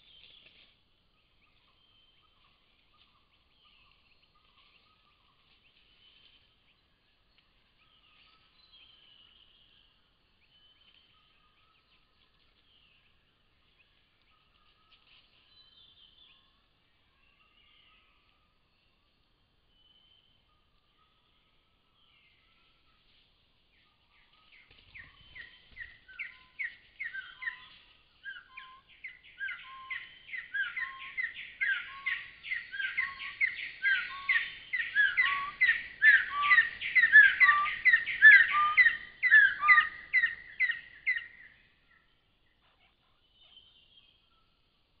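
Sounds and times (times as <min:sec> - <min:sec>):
bird singing whistled notes: 0:00.0 - 0:00.5, 0:01.2 - 0:23.0, 0:23.7 - 0:44.8.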